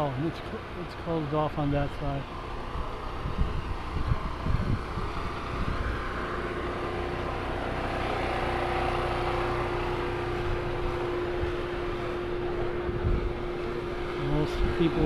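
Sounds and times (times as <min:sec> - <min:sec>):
constant hum: 0:00.0 - 0:15.0
steady mechanical drone: 0:00.0 - 0:15.0.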